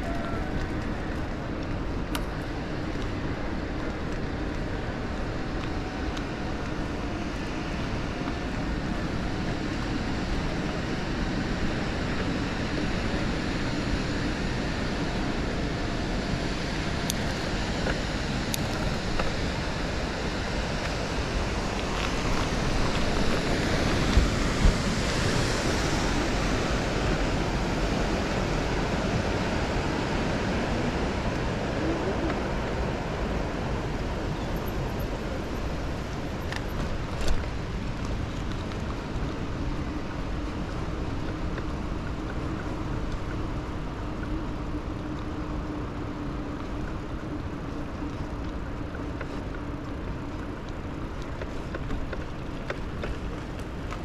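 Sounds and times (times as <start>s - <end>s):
wind on microphone: 0.0s - 46.2s
bicycle tyres rolling on pavement: 0.0s - 54.0s.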